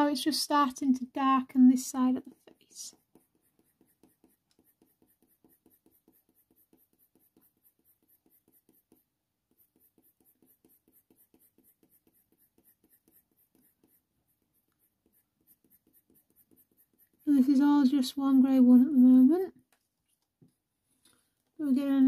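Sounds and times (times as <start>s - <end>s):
pencil scratching on paper: 1.8s - 19.8s.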